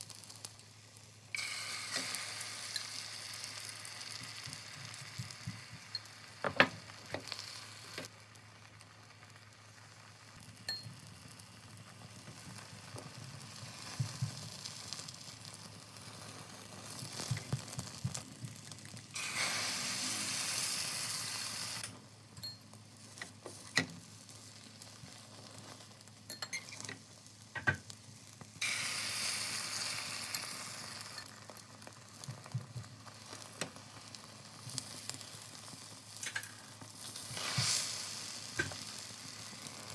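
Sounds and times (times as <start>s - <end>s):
food sizzling in a hot pan: 0.0s - 39.9s.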